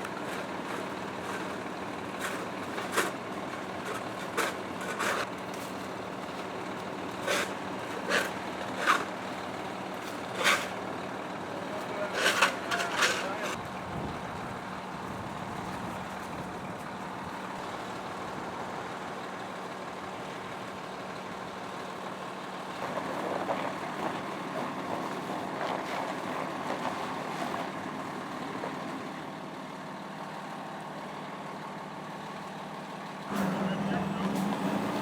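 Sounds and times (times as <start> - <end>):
fire engine idling: 0.0 - 35.0.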